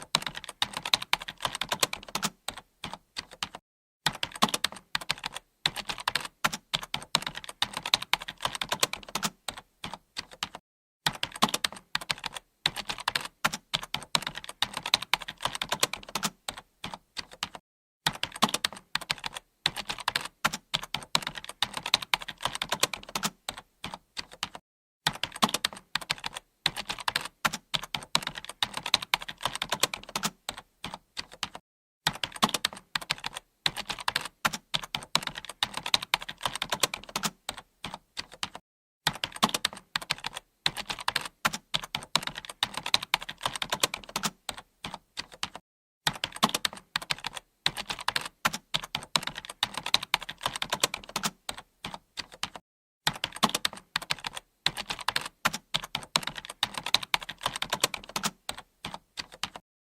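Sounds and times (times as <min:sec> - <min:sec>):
keyboard typing: 0:00.0 - 0:59.6.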